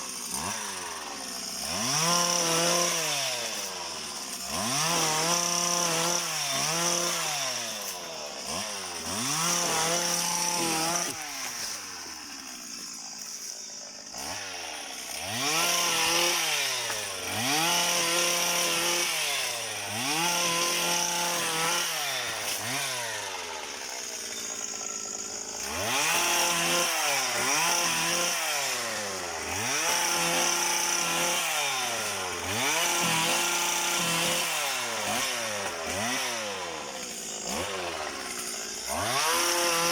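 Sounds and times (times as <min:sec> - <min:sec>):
two-stroke engine revving: 0:00.0 - 0:12.5, 0:14.0 - 0:39.9.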